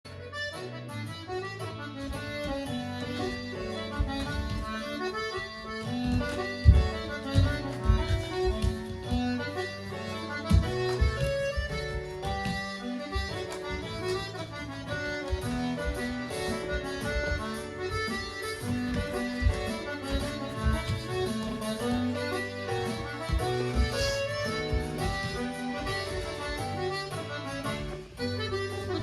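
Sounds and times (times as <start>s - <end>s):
low thuds: 2.0s - 27.8s.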